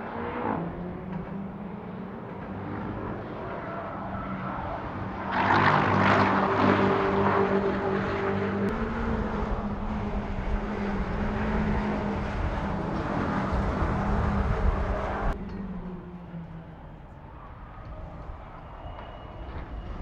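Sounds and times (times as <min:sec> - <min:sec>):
car engine running hard: 0:00.0 - 0:18.5
road and wind noise: 0:00.0 - 0:20.0.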